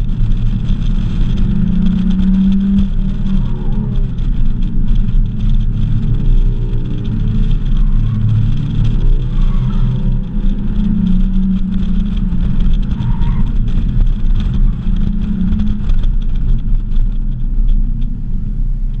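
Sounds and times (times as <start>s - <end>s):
car engine running hard: 0.0s - 19.0s
wind rumbling on microphone: 0.0s - 19.0s.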